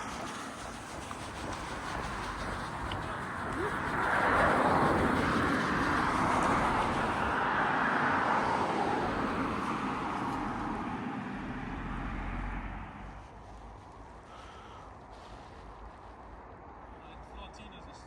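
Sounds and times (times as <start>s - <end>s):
vehicle passing by: 0.0s - 17.2s.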